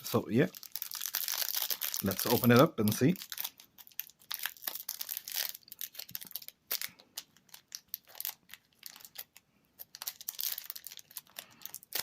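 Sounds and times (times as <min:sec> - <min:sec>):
foil wrapper crinkling: 0:00.1 - 0:12.0.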